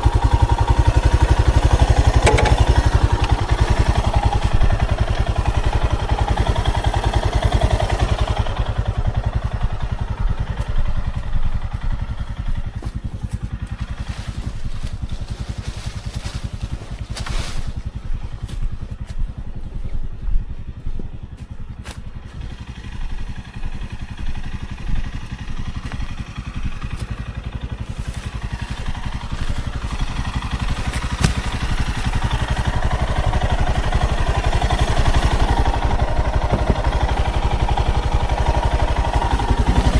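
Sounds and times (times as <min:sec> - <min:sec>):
road noise: 0:00.0 - 0:39.9
vehicle engine running: 0:00.0 - 0:39.9.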